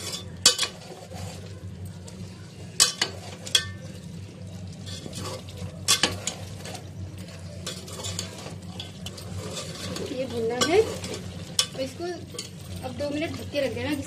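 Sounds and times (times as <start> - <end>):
spoon scraping and clinking pot: 0.0 - 2.0, 2.8 - 4.0, 4.8 - 14.0
low steady hum: 0.0 - 14.0
metal spoon stirring in metal pot: 0.0 - 14.0.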